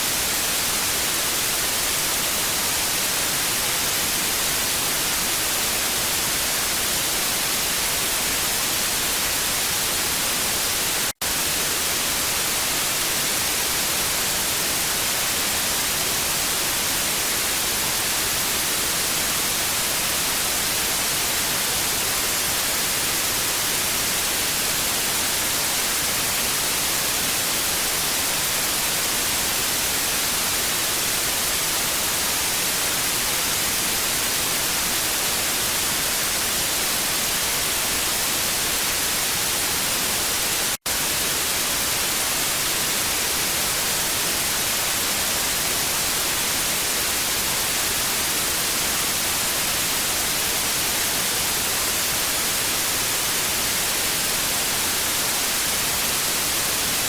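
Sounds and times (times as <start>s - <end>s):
tv static hiss: 0.0s - 57.0s.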